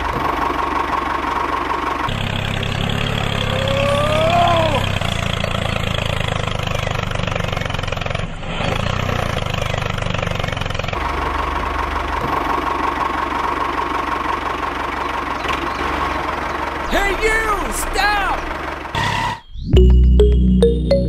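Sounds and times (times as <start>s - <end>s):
engine with high whine: 0.0s - 16.9s, 18.4s - 20.4s
small engine chugging: 0.0s - 17.8s.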